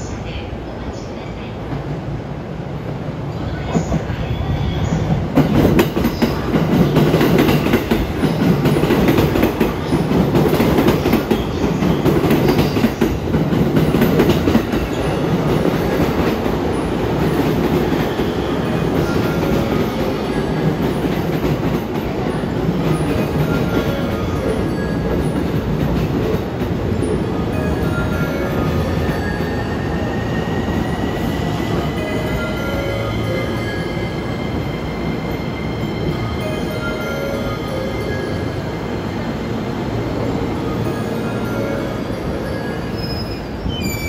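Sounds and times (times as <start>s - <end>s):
electric train slowing: 4.8s - 44.0s.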